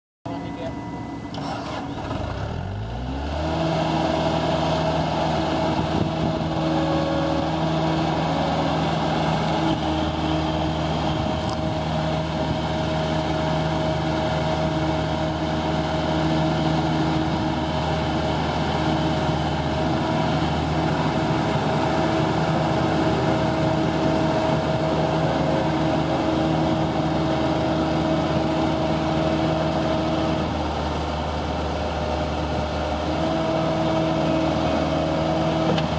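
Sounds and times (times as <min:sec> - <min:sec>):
diesel engine running: 0:00.3 - 0:35.9.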